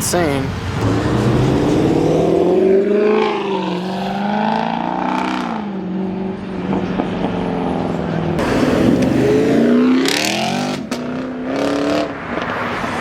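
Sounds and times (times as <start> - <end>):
car engine revving: 0.5 - 13.0.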